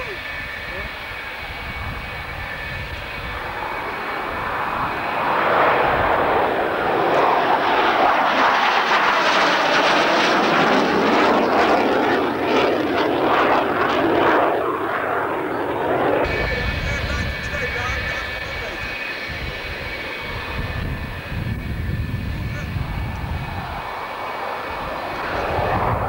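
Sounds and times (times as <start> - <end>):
jet fighter roaring overhead: 0.0 - 26.0.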